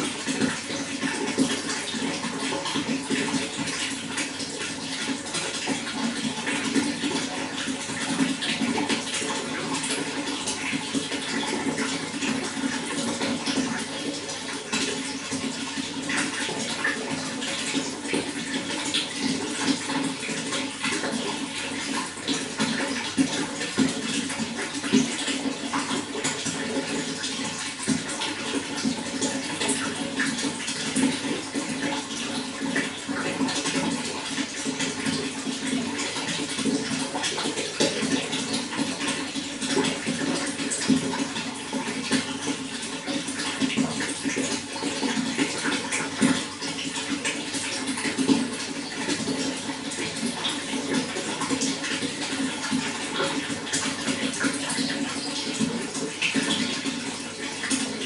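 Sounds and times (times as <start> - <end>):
running water flowing: 0.0 - 58.0.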